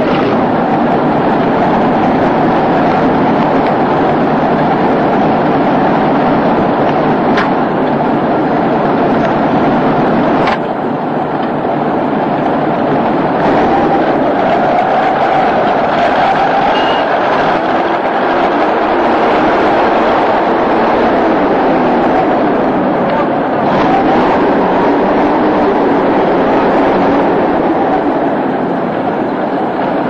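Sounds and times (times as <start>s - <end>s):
tracked vehicle engine under load: 0.0s - 30.0s.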